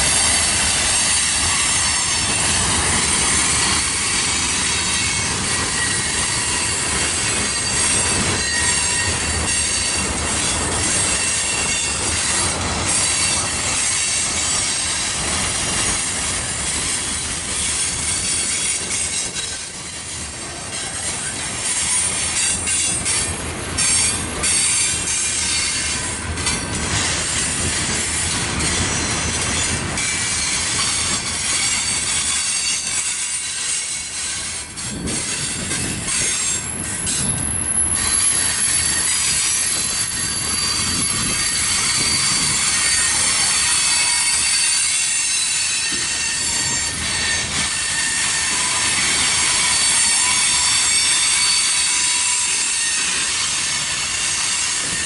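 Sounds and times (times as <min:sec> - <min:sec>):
high wheel squeal: 0:00.0 - 0:15.1, 0:15.8 - 0:55.0
train wheels rumbling on rails: 0:00.0 - 0:55.0.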